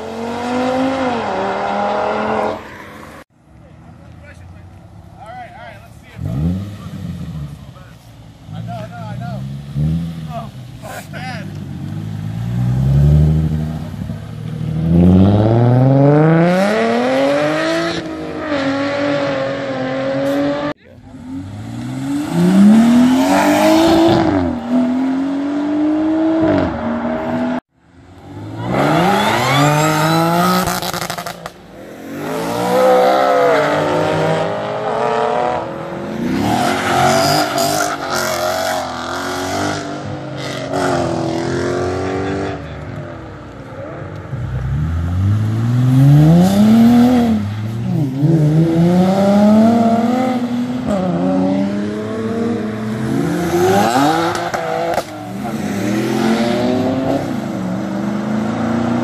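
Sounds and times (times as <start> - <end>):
cars accelerating hard: 0.0 - 3.2, 6.1 - 7.8, 8.4 - 27.6, 28.2 - 59.0.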